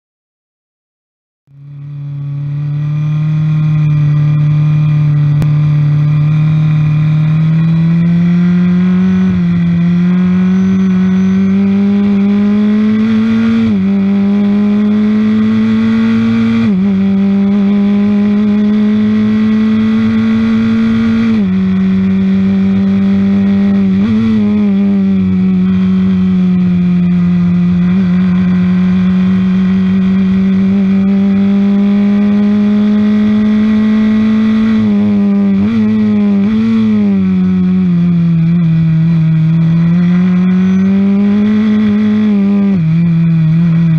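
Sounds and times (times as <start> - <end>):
race car engine at full throttle: 1.5 - 43.9
rushing wind and road noise: 1.7 - 43.9.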